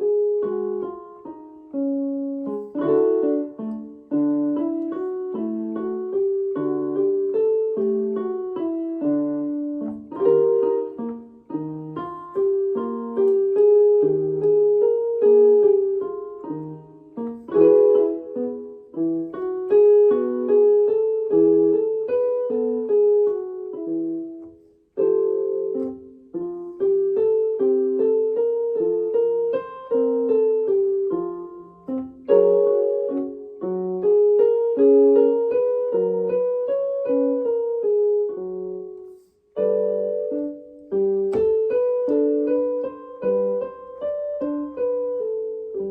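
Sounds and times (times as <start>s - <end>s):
piano note patterns: 0.0s - 45.9s.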